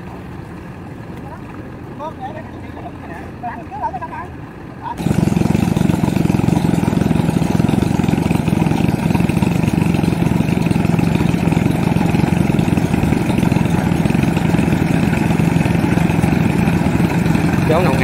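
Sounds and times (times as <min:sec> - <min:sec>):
combine harvester engine humming: 0:00.0 - 0:18.0.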